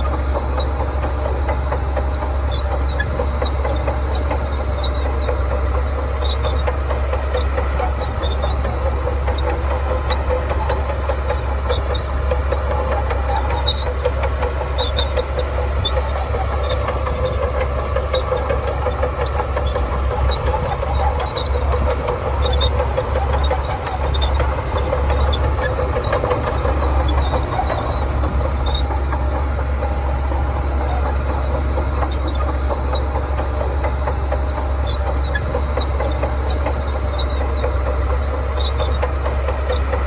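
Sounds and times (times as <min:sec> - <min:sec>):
bulldozer diesel engine rumbling: 0:00.0 - 0:40.0.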